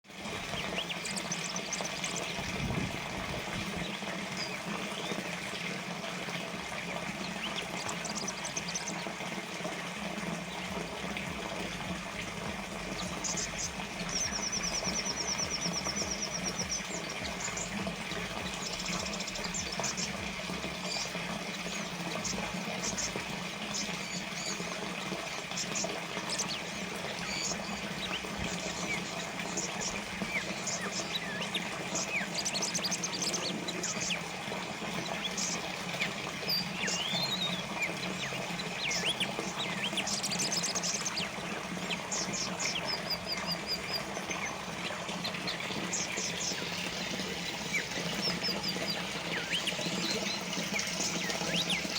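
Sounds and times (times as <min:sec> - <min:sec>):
small birds chirping: 0:00.0 - 0:51.9
water trickling and splashing: 0:00.0 - 0:51.9.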